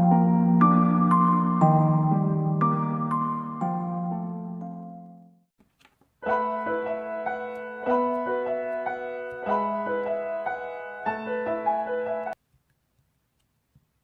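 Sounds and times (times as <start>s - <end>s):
slow piano music: 0.0s - 5.5s, 6.2s - 12.4s.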